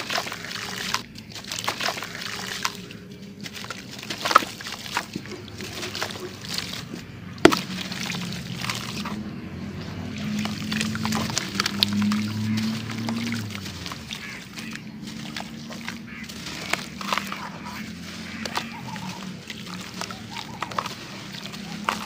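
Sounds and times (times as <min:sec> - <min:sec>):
sand trickling into water: 0:00.0 - 0:22.0
water sloshing: 0:00.0 - 0:22.0.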